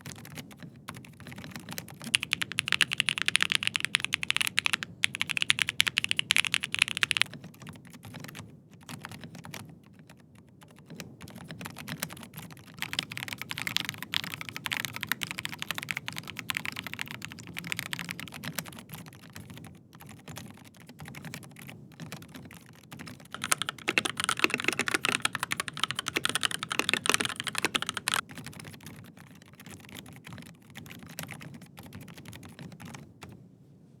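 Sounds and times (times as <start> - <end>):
fast typing on mechanical keyboard: 0.0 - 33.4.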